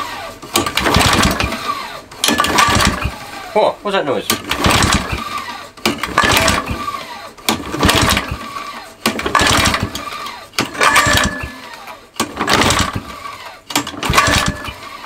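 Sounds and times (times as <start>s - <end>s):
lawn mower pull-start scraping: 0.0s - 3.7s, 4.3s - 15.0s.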